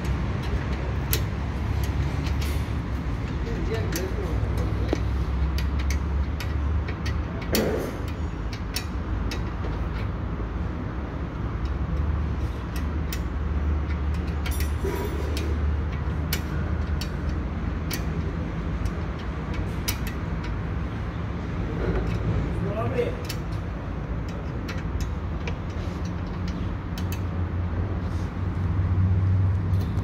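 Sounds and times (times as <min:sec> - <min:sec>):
metal tools clicking: 0:00.0 - 0:10.3, 0:11.3 - 0:27.5
low engine-like rumble: 0:00.0 - 0:30.0.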